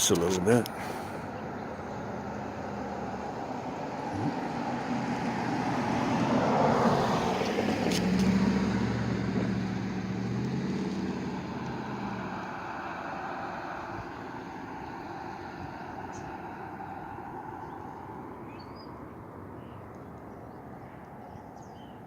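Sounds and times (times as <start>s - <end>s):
vehicle passing by: 0.0s - 18.4s
low engine hum: 0.0s - 20.7s.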